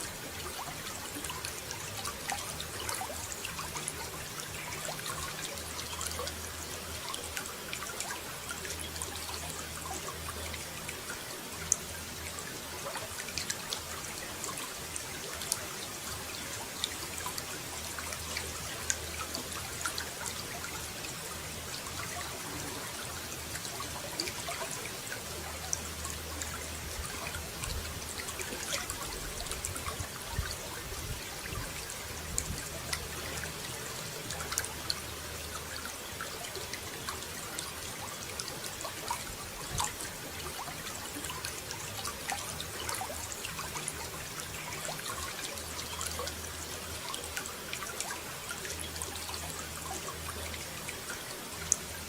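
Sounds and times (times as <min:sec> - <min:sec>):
water trickling and splashing: 0:00.0 - 0:52.0.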